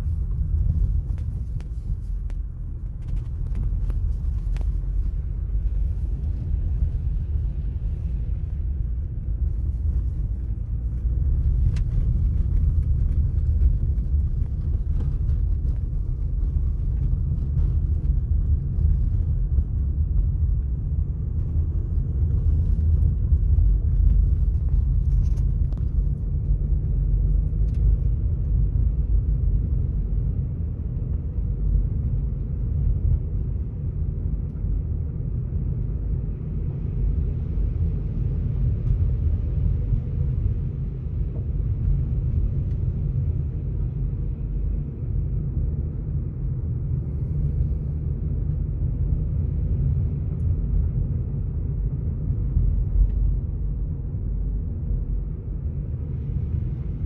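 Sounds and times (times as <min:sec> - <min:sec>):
tyres rumbling on gravel road: 0:00.0 - 0:57.0.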